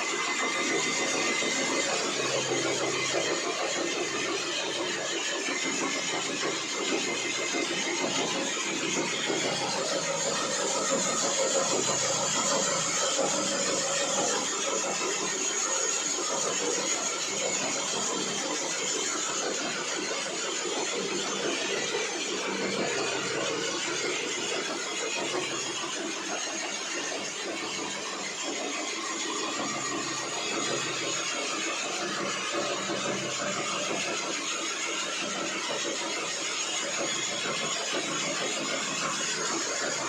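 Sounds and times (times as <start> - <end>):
core drill whirring: 0.0 - 40.0.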